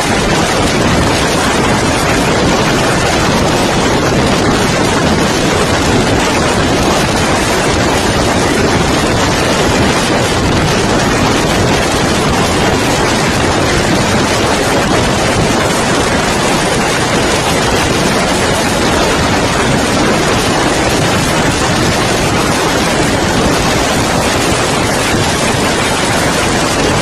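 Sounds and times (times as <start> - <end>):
wind on microphone: 0.0 - 27.0.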